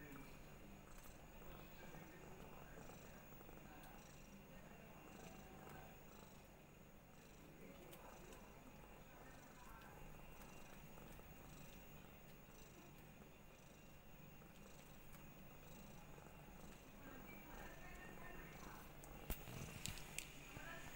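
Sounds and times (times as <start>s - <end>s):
cat purring: 0.0s - 20.9s.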